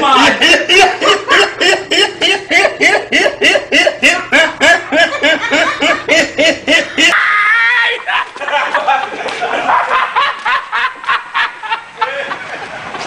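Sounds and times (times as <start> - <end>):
person laughing hard: 0.0 - 7.3, 7.9 - 13.0.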